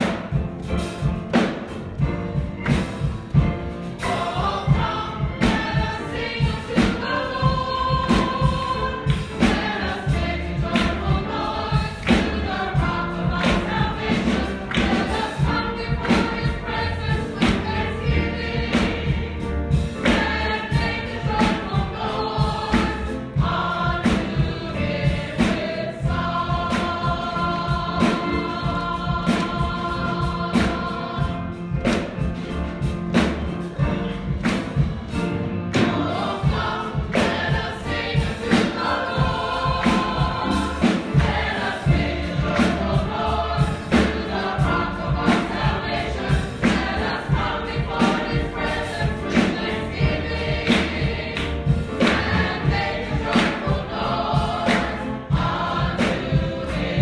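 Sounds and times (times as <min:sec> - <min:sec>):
congregation singing: 0:00.0 - 0:57.0.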